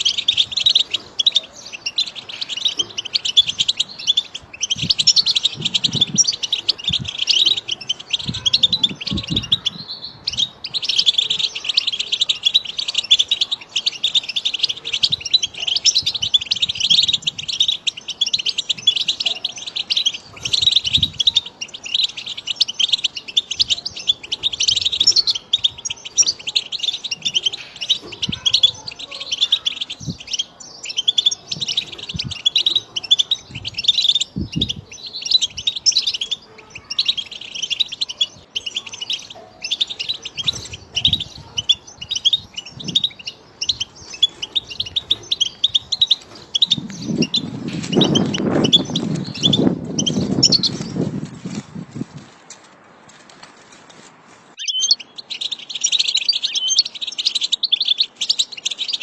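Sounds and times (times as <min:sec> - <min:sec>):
finch twittering and trilling: 0:00.0 - 0:51.6, 0:54.6 - 0:59.0.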